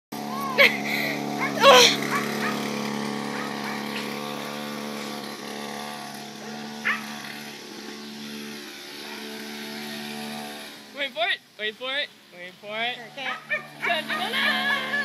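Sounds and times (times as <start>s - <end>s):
motorcycle engine riding away: 0.1s - 11.1s, 12.7s - 15.0s.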